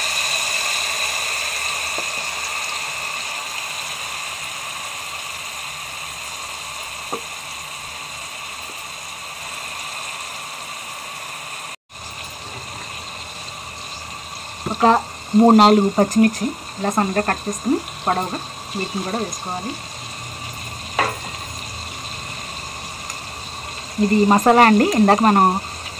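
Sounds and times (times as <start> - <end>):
onion paste sizzling in oil: 0.0 - 25.9.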